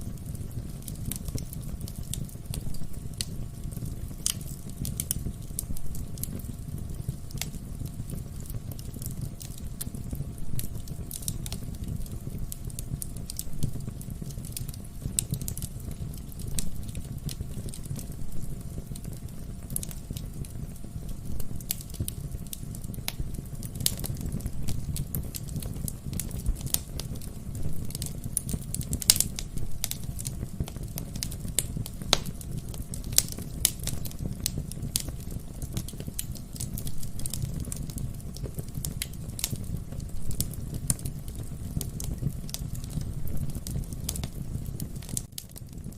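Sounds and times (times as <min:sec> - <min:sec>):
fire burning with crackles and pops: 0:00.0 - 0:45.9.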